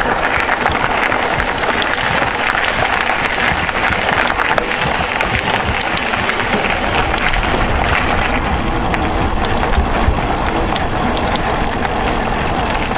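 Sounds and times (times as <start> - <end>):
sharp ticks: 0.0 - 12.9
tyres crunching on gravel: 0.0 - 12.9
wind rumble on microphone: 0.0 - 12.9.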